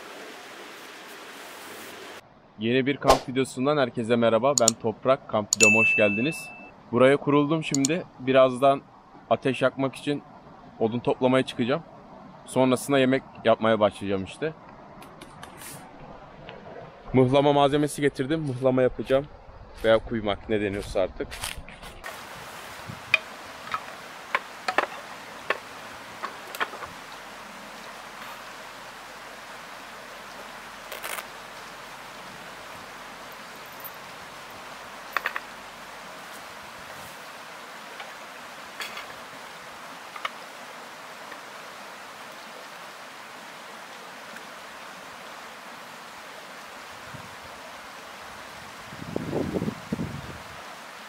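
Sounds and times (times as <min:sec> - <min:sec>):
faint steady hiss: 0:00.0 - 0:20.0, 0:22.0 - 0:51.0.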